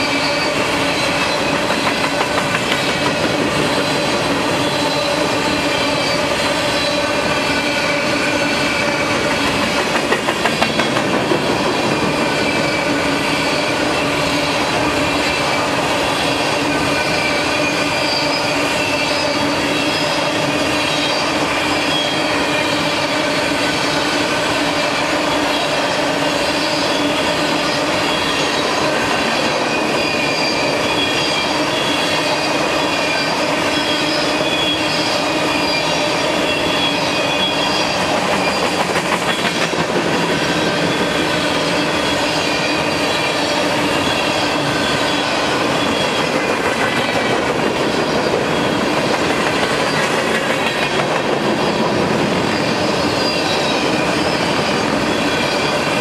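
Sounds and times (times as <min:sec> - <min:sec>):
rumble and rattle of freight cars: 0:00.0 - 0:56.0
train wheels squealing: 0:00.0 - 0:56.0.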